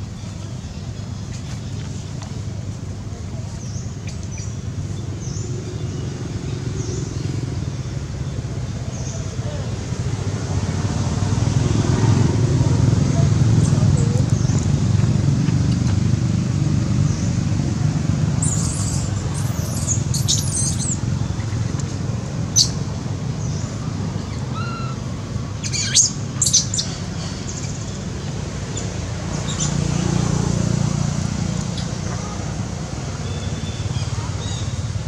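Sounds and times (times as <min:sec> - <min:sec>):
birds chirping: 0:00.0 - 0:11.1, 0:12.0 - 0:15.3, 0:18.2 - 0:30.4, 0:31.0 - 0:35.0.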